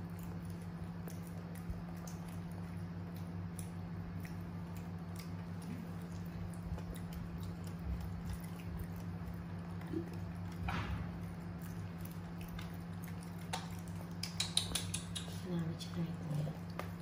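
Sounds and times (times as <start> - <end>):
small clicks of fingers in food: 0.0 - 10.7, 11.4 - 15.7, 16.6 - 17.0
soft squishes of food: 0.0 - 17.0
steady low hum: 0.0 - 17.0.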